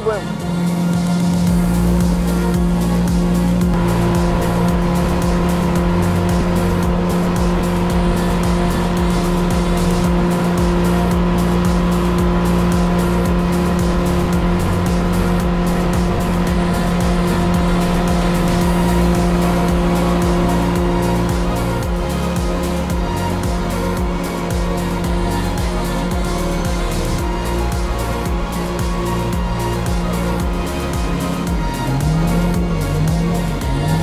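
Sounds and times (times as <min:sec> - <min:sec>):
background music: 0:00.0 - 0:34.0
outboard motor running: 0:00.0 - 0:34.0.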